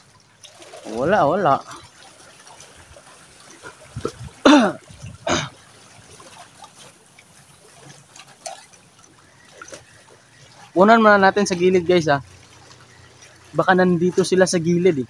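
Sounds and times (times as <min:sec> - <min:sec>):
water lapping over rocks: 0:00.0 - 0:15.0.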